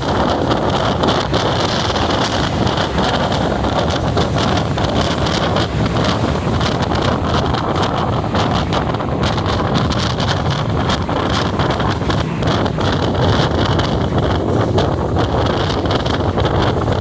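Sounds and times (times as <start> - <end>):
train rumbling: 0.0 - 17.0
wind buffeting microphone: 0.0 - 17.0.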